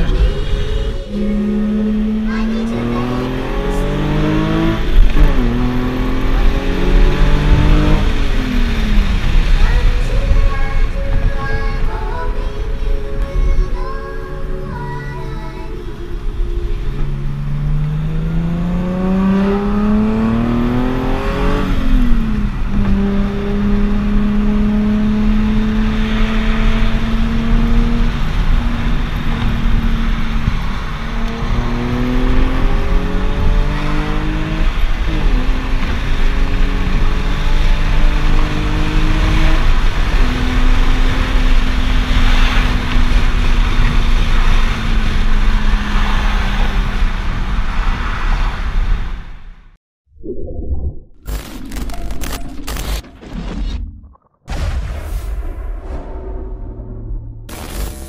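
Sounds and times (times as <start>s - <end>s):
car engine accelerating: 0.0s - 11.8s, 14.4s - 49.2s.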